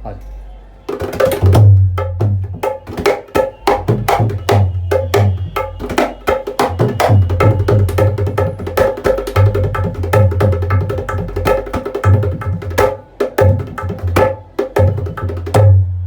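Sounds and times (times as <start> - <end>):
hand drum played fast: 0.9 - 15.9.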